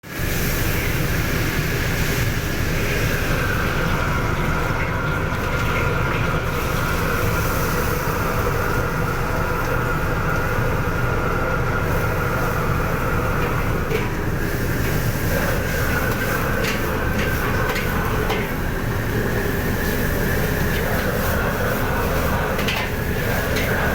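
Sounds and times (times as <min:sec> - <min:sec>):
kitchen equipment low rumble: 0:00.0 - 0:23.9.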